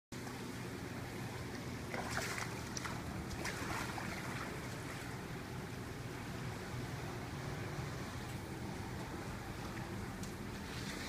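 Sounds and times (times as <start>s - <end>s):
floodwater splashing and sloshing: 0.2s - 11.0s
steady low rumble: 0.2s - 11.0s.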